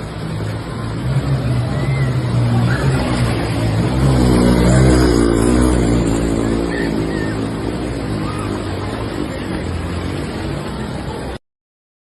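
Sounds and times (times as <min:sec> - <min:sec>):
vehicle engine revving: 0:00.0 - 0:11.2
steady rushing noise: 0:00.0 - 0:11.4.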